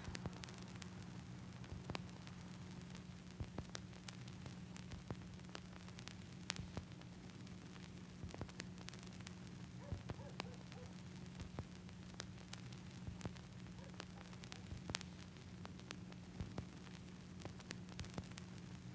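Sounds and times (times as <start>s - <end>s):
crackling clicks: 0.0s - 18.9s
faint low hum and hiss: 0.0s - 18.9s.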